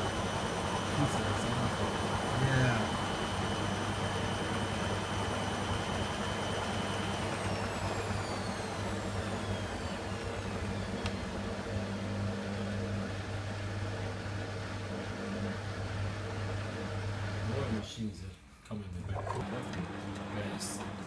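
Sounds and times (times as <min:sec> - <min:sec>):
washing machine drum motor whine: 0:00.0 - 0:17.8, 0:19.0 - 0:21.0.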